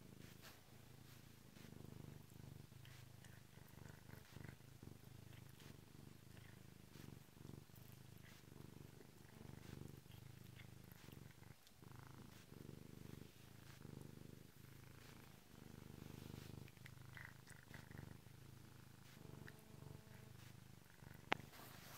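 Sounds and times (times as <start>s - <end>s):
cat purring: 0.0s - 21.9s.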